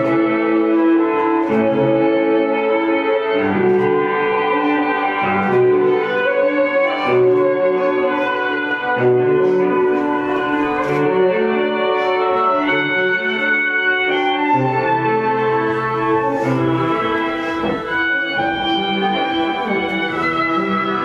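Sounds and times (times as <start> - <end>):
slow instrumental processional music: 0.0 - 21.0.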